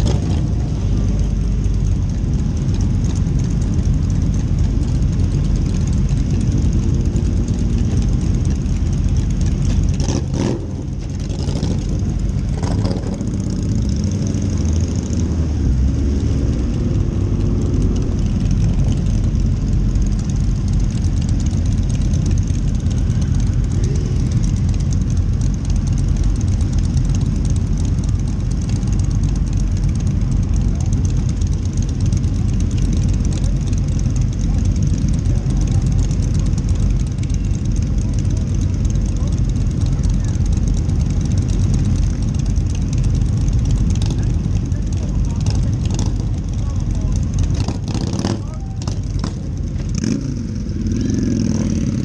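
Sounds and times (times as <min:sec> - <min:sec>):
motorcycle engines running: 0:00.0 - 0:52.0.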